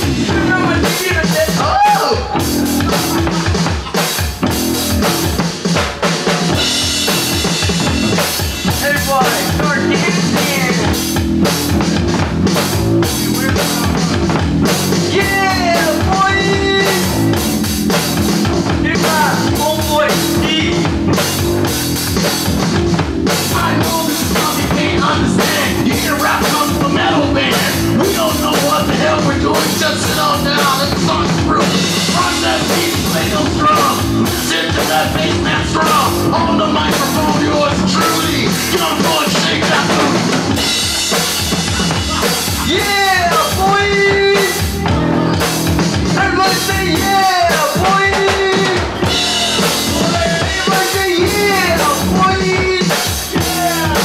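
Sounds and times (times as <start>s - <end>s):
repeating bass line: 0.0s - 5.6s, 6.4s - 54.0s
drum kit steady beat: 0.0s - 54.0s.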